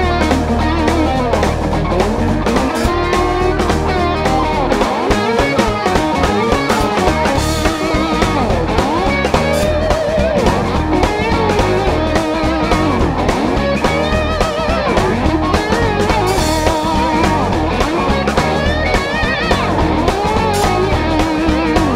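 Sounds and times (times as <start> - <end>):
bass: 0.0 - 21.9
electric guitar bending notes: 0.0 - 21.9
steady drum beat: 0.0 - 21.9.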